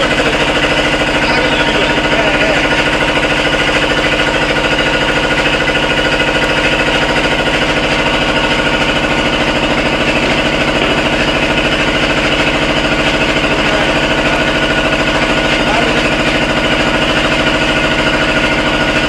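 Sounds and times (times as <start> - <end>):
engine running with knocking beat: 0.0 - 19.0.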